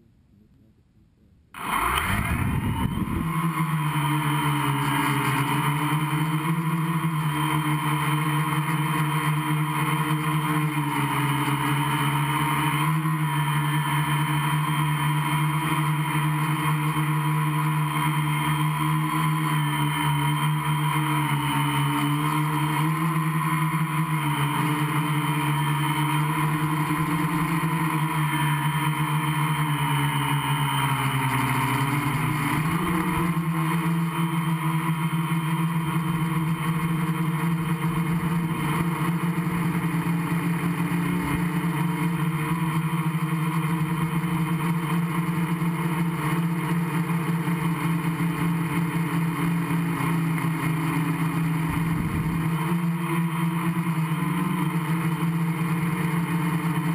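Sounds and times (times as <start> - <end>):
quadcopter motors and propellers: 1.6 - 56.9.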